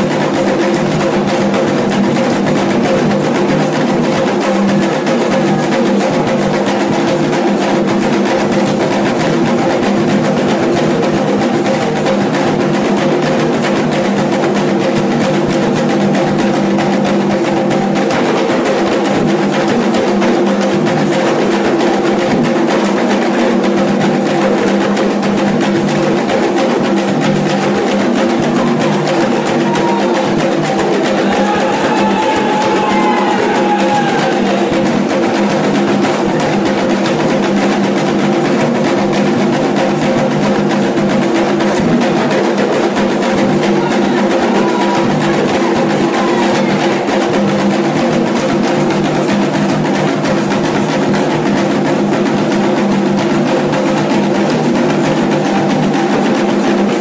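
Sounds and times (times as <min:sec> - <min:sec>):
hand drums fast rhythm: 0:00.0 - 0:57.0.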